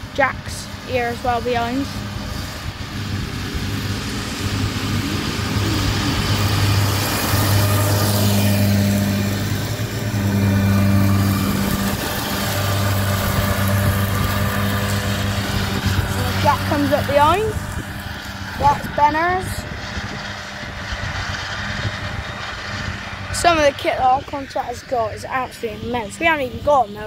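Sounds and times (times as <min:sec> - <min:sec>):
tractor engine hum: 0:00.0 - 0:27.0.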